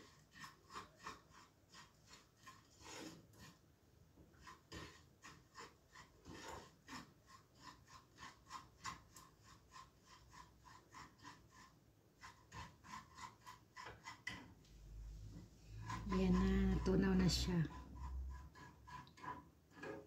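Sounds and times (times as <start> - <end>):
utensil scraping a pot: 0.0 - 20.0.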